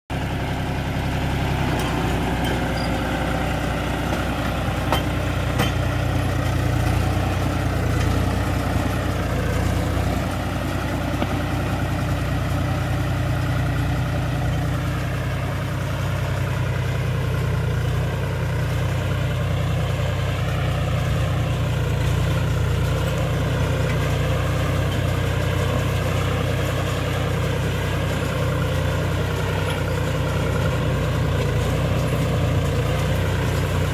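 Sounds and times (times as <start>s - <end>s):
tractor diesel engine under load: 0.1s - 33.9s.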